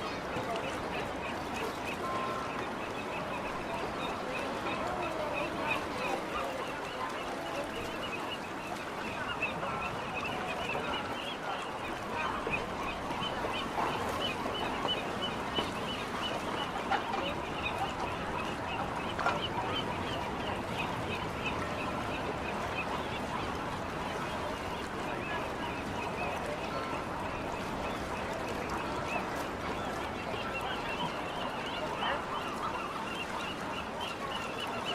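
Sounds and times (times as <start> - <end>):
birds calling: 0.0 - 34.9
outdoor background noise: 0.0 - 34.9.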